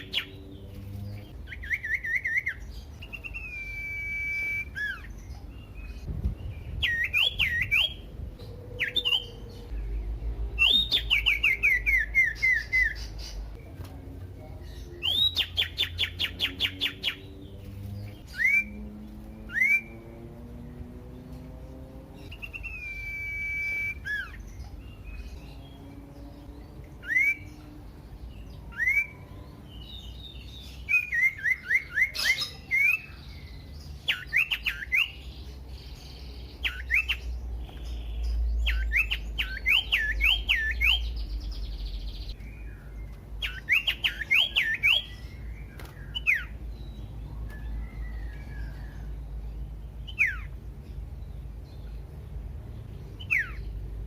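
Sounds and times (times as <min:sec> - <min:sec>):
bird whistling song: 0:00.0 - 0:09.9, 0:10.6 - 0:13.5, 0:14.9 - 0:20.2, 0:22.2 - 0:25.5, 0:26.9 - 0:27.7, 0:28.3 - 0:49.0, 0:50.0 - 0:50.6, 0:53.2 - 0:53.8.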